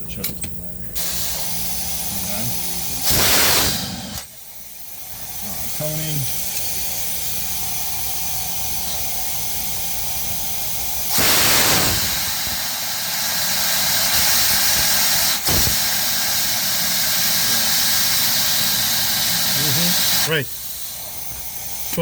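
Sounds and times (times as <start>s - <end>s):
air rushing through carburetor: 1.0s - 22.0s.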